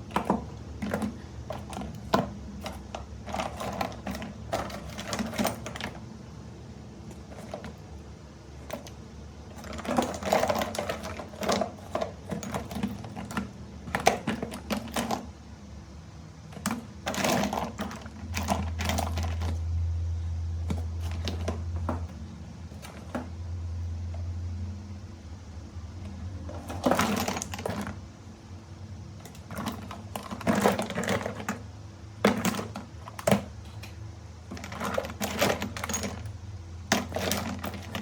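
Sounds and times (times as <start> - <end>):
hard parts clicking and clattering: 0.0 - 6.1, 7.0 - 15.4, 16.5 - 19.7, 20.6 - 23.4, 26.0 - 28.1, 29.1 - 38.0
low electrical hum: 0.0 - 38.0.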